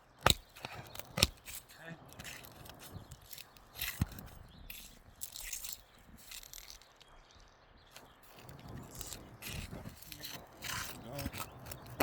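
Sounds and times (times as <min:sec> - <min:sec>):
nail puller scraping and clicking: 0:00.2 - 0:06.9, 0:08.3 - 0:12.0.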